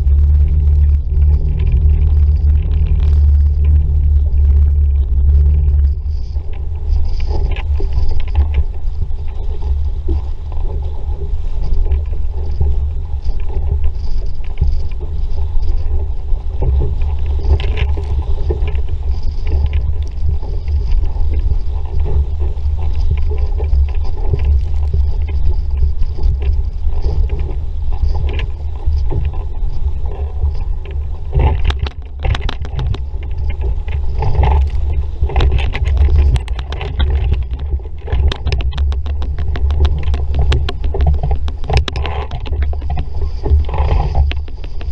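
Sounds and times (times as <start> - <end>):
water rushing along hull: 0.0 - 44.9
wind buffeting microphone: 0.0 - 44.9.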